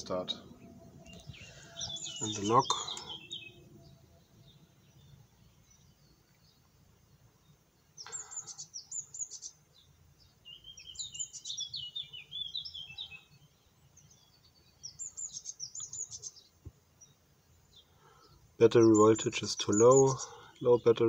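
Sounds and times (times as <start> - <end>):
songbird chirps and trills: 0.0 - 21.0.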